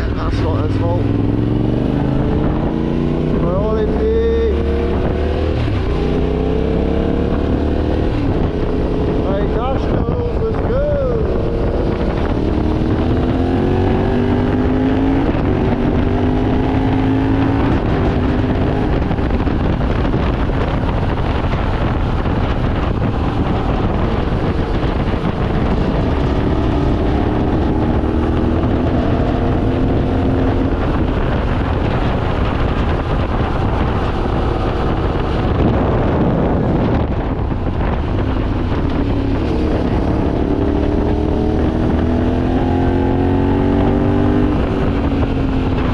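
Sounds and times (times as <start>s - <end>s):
motorcycle engine accelerating: 0.0s - 45.9s
wind rumble on microphone: 0.0s - 45.9s.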